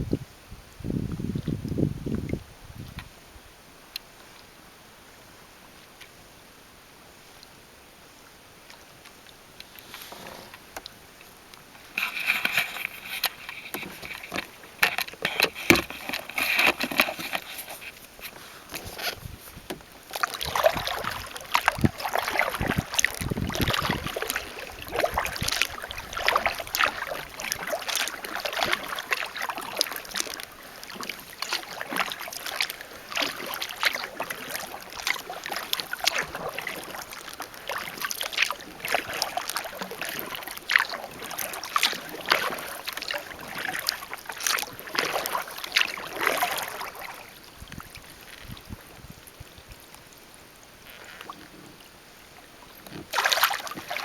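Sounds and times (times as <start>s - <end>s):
paddle splashing through water: 8.4s - 54.0s.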